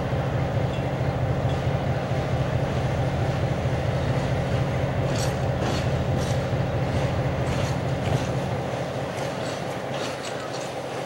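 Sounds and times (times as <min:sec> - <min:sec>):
rail clicks: 0:00.0 - 0:11.0
train running gear rumble: 0:00.0 - 0:11.0.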